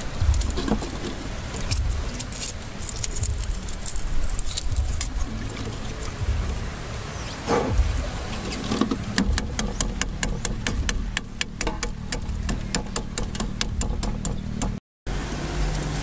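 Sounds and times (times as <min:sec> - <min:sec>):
rapid even ticking: 0:00.0 - 0:06.8, 0:07.7 - 0:14.8
steady low rumble: 0:00.0 - 0:15.6.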